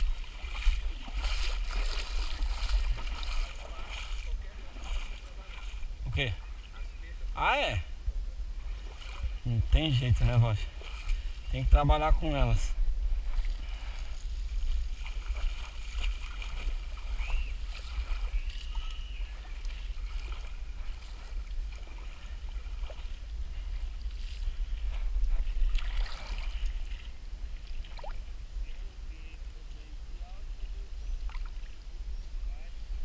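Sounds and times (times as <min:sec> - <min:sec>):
pond water swishing and sloshing: 0:00.0 - 0:07.3, 0:08.4 - 0:28.9, 0:30.2 - 0:31.8
wind rumble on microphone: 0:00.0 - 0:33.0.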